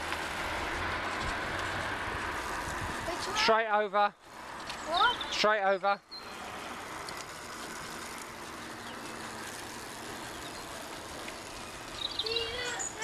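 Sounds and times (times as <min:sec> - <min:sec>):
street noise: 0:00.0 - 0:13.0
vehicle engine humming: 0:00.0 - 0:13.0.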